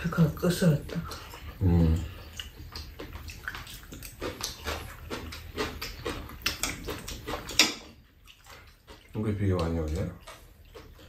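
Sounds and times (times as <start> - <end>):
wet chewing and lip smacks: 0.4 - 11.0.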